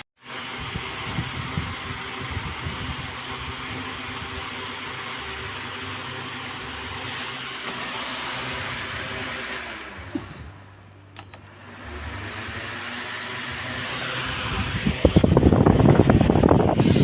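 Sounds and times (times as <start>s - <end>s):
electric fan blowing air: 0.2s - 17.0s.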